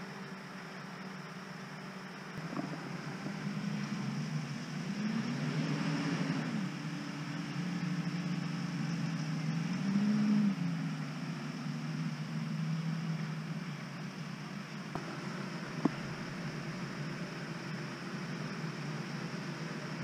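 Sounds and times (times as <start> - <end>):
distant tractor engines: 0.0 - 20.0.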